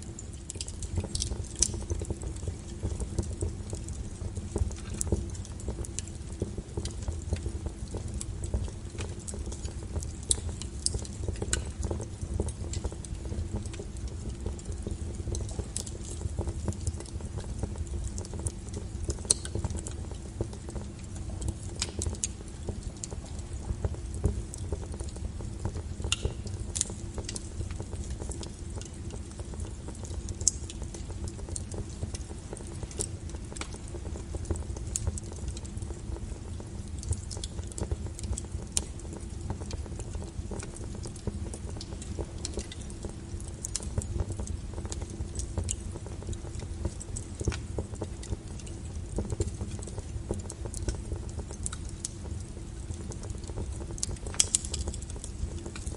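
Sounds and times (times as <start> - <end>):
burning logs crackling and popping: 0.0 - 55.9
wood fire rumbling: 0.0 - 55.9.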